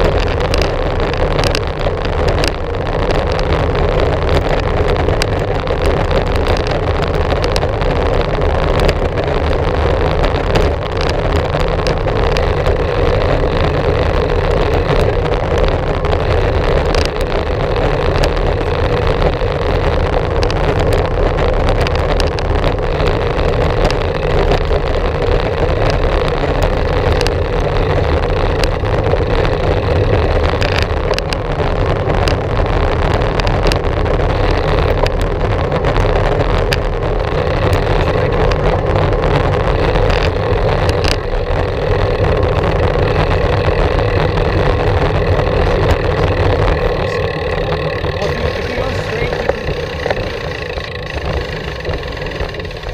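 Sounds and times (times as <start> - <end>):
bicycle tyre and trail noise: 0.0 - 52.9
wind buffeting microphone: 0.0 - 52.9.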